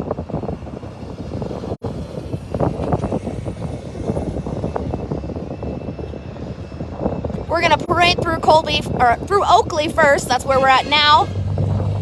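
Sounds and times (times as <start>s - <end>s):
truck engines droning: 0.0s - 12.0s.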